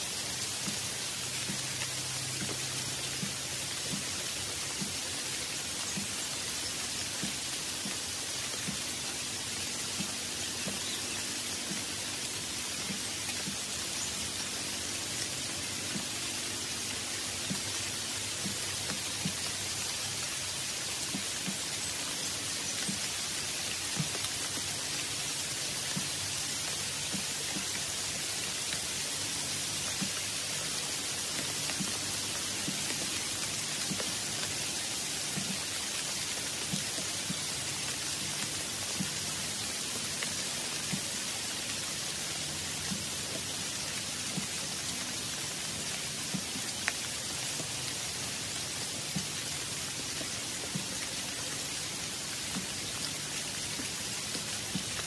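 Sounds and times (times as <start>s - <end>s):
steady rain falling: 0.0s - 55.0s
raindrop ticks: 0.1s - 55.0s.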